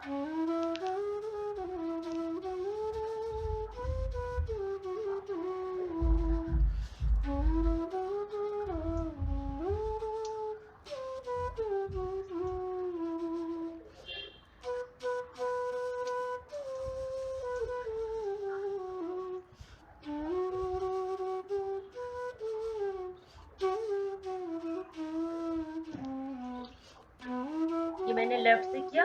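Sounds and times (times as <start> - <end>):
slow solo flute melody: 0.0 - 29.0.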